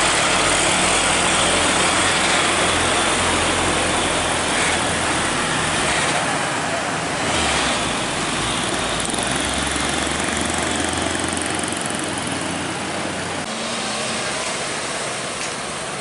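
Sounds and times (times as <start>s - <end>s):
motorcycle engines: 0.0s - 16.0s
truck diesel engine running: 0.0s - 16.0s
tyre and road noise: 0.0s - 16.0s.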